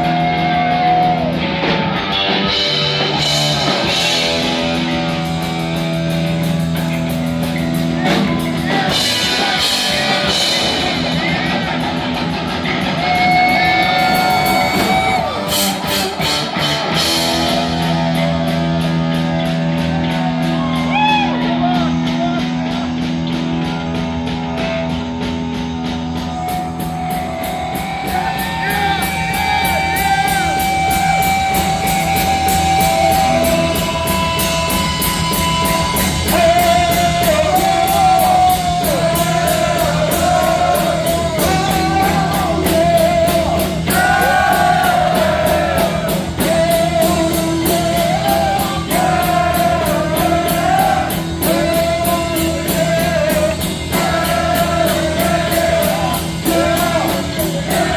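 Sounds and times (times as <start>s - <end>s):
heavy metal band playing live: 0.0s - 57.9s.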